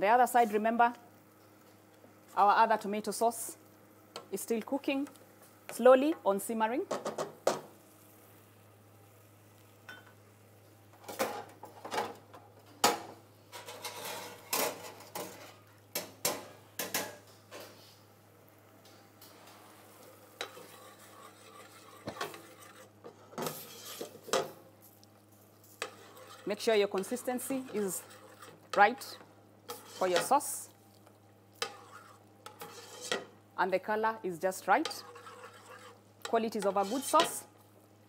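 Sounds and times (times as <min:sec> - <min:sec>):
plates and utensils on steel counter: 0:04.0 - 0:08.6, 0:09.6 - 0:18.0, 0:18.8 - 0:37.9.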